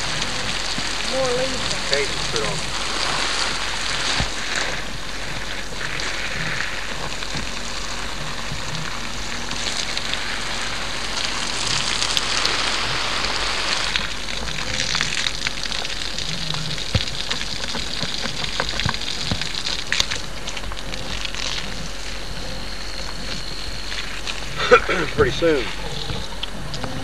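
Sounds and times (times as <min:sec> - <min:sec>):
water splashing from garden hose: 0:00.0 - 0:26.8.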